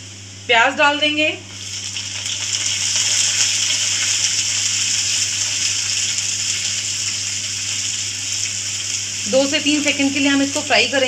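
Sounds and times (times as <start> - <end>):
onions sizzling in hot oil: 1.5 - 11.0.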